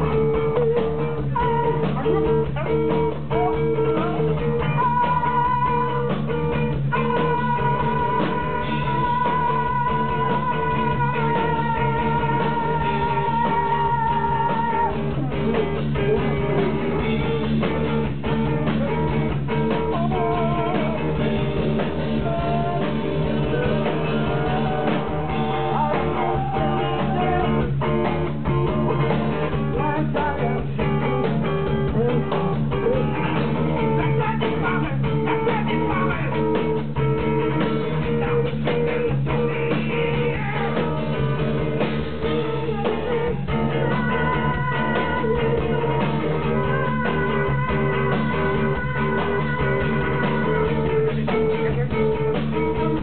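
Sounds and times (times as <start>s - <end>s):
person singing: 0.0s - 17.8s, 18.6s - 53.0s
distorted guitar and bass drone: 0.0s - 53.0s.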